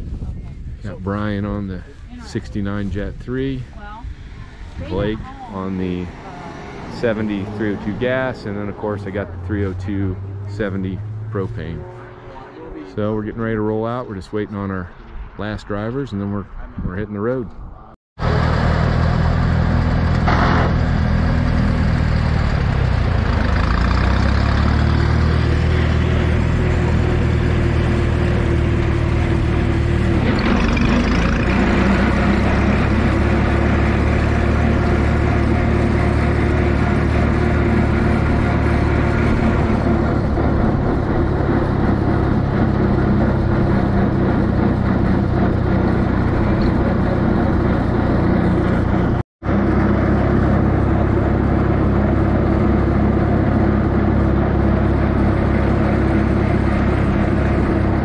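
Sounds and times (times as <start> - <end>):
tractor engine running: 0.0 - 16.0, 18.2 - 58.0.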